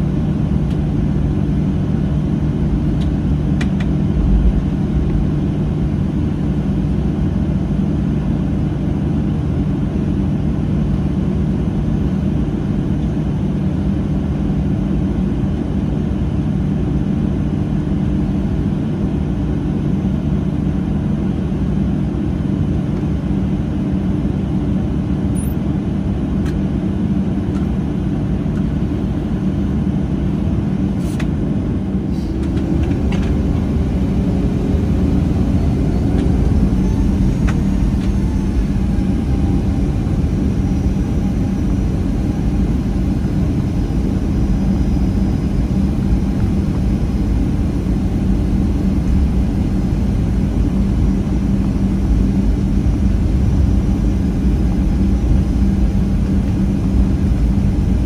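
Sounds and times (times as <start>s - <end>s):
jet engines idling hum: 0.0s - 58.0s.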